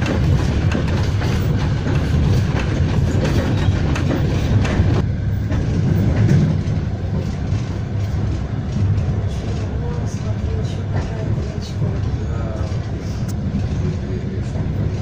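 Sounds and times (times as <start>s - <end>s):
clicks over rail joints: 0.0s - 15.0s
train wheels rumbling on rails: 0.0s - 15.0s.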